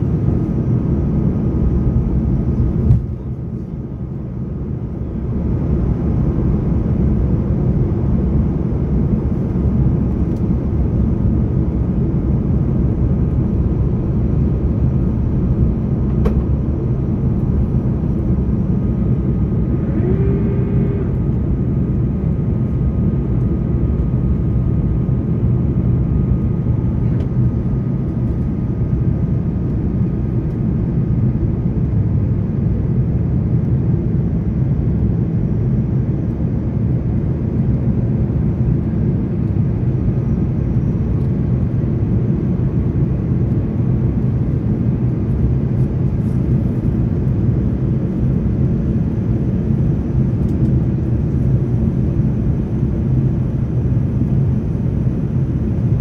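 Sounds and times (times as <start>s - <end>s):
airplane cabin engine and airflow rush: 0.0s - 56.0s.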